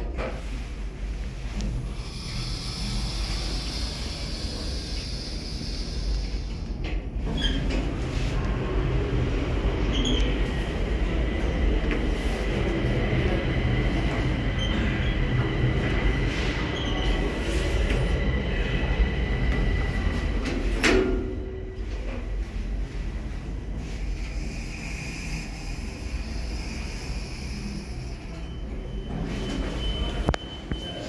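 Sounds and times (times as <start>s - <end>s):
train rumbling: 0.0s - 31.0s
elevator high whine: 0.1s - 31.0s.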